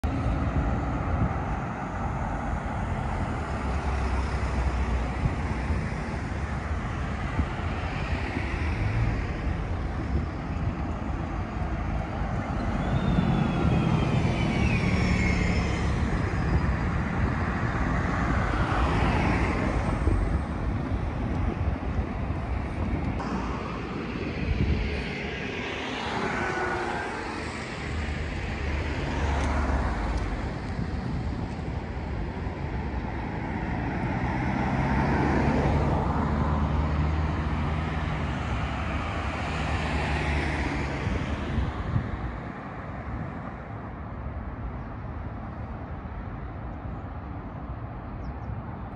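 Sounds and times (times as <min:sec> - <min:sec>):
bus driving past: 0:00.0 - 0:48.9
cars driving past: 0:00.0 - 0:48.9.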